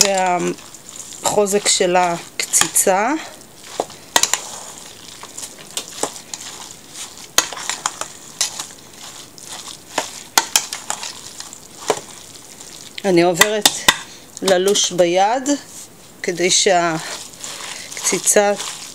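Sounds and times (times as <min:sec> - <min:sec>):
spoon scraping wet mixture: 0:00.0 - 0:18.9.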